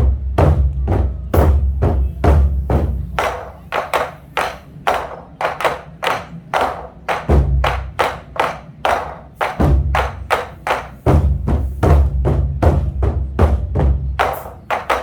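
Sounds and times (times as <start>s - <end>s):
deep drum strikes: 0.0s - 15.0s
sharp drum strikes galloping: 0.0s - 15.0s.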